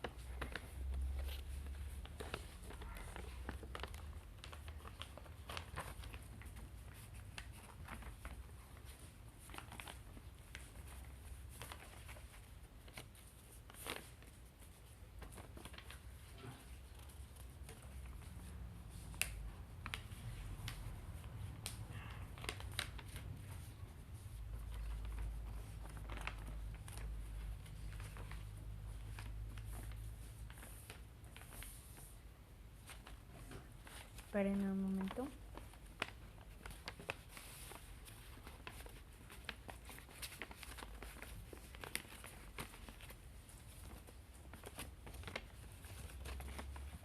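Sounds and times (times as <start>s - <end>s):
paper rustling and crinkling: 0.0s - 47.0s.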